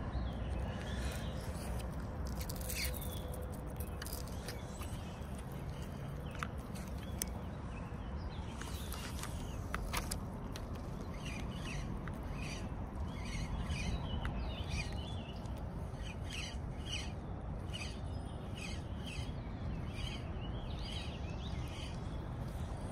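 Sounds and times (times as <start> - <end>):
birds chirping and warbling: 0.0 - 22.9.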